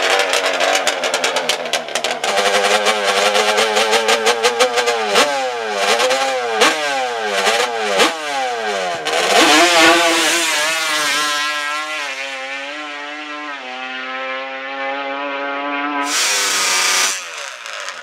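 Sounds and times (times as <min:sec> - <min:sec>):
trike engine revving: 0:00.0 - 0:18.0.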